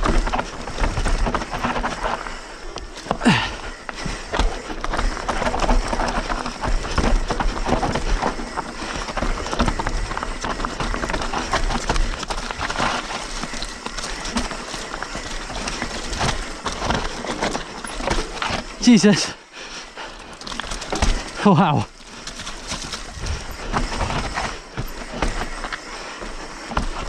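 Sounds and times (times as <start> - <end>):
bike knocking and rattling: 0.0 - 27.0
tyres rushing on loose dirt: 0.0 - 27.0.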